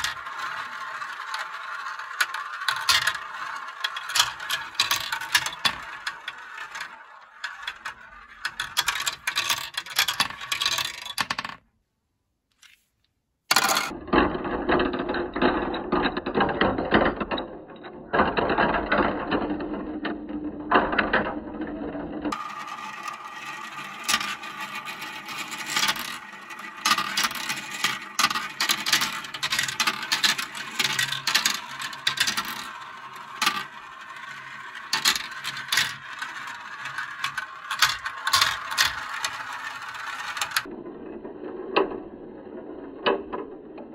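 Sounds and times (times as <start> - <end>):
plastic balls clattering through marble run: 0.0 - 11.6, 13.5 - 43.9.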